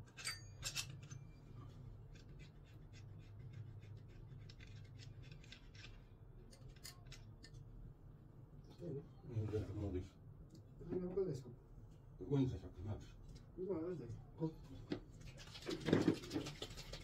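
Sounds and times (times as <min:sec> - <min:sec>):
low steady hum: 0:00.0 - 0:15.6.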